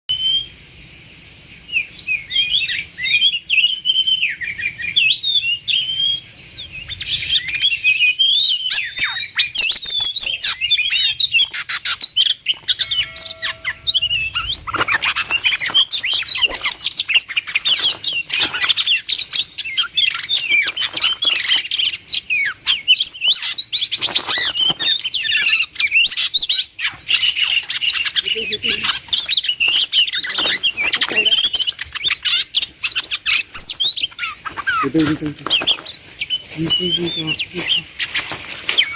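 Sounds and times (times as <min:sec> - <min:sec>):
bird singing: 0:01.5 - 0:38.9.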